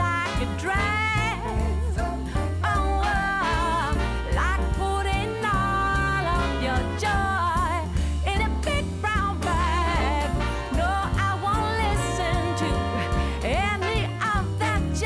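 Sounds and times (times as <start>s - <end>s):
upbeat swing song: 0.0s - 15.0s.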